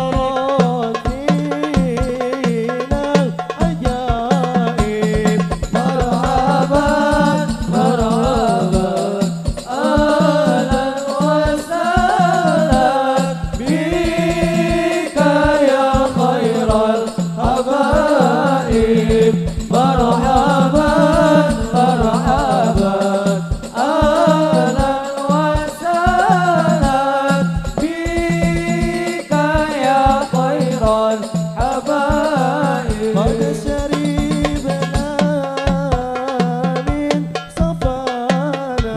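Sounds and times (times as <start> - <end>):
frame drums: 0.0 - 38.9
person singing devotional song: 0.0 - 38.9.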